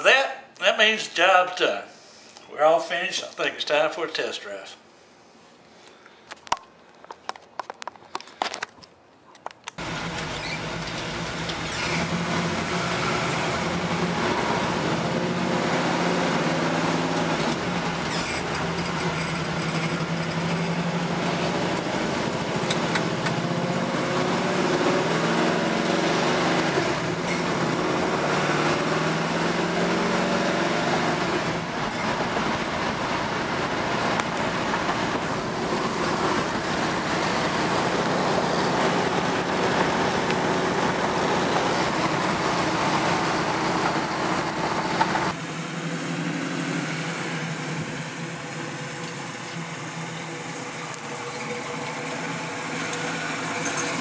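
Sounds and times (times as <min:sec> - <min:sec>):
road and wind noise: 0:06.2 - 0:54.0
car engine running: 0:09.8 - 0:54.0.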